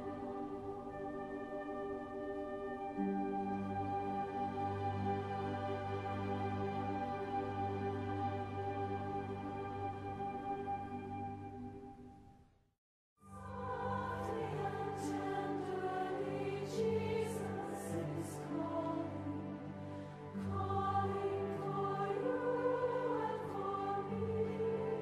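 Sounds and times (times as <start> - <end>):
choir singing a hymn: 0.0 - 10.3, 13.3 - 25.0.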